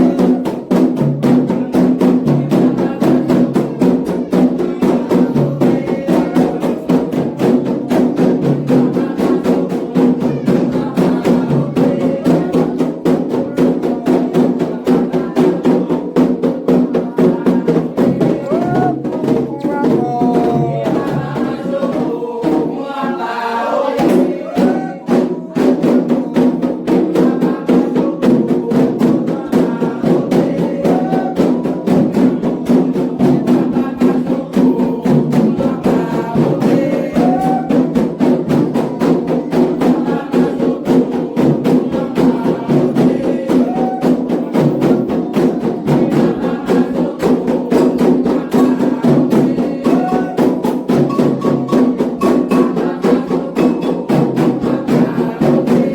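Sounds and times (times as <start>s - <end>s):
hand drums: 0.0s - 55.9s
voices singing a chant: 0.0s - 55.9s.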